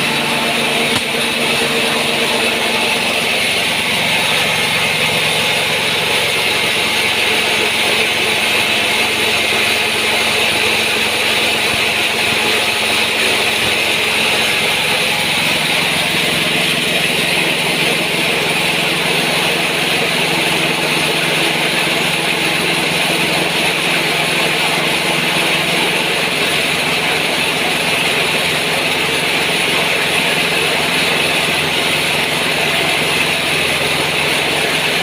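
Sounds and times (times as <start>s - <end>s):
diesel engine drone: 0.0s - 35.0s.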